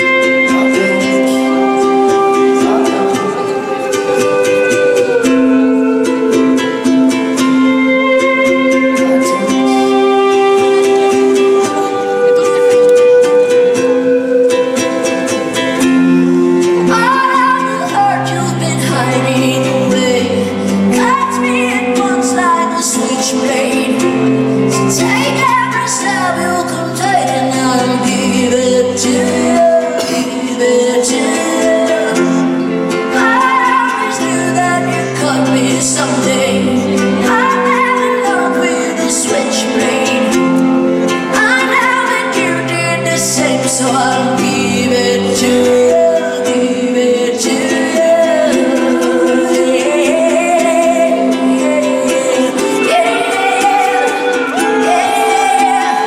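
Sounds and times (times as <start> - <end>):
live band music: 0.0 - 56.0
woman singing: 0.0 - 56.0.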